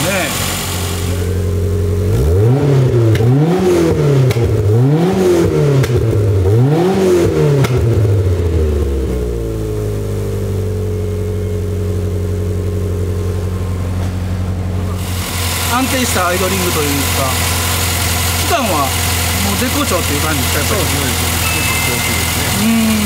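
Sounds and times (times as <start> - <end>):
car engine idling: 0.0 - 23.0
car engine revving from idle: 0.0 - 23.0.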